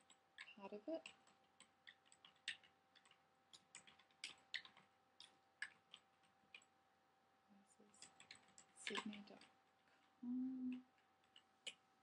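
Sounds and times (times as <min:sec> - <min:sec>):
faint keyboard typing: 0:00.0 - 0:06.8, 0:07.6 - 0:12.0.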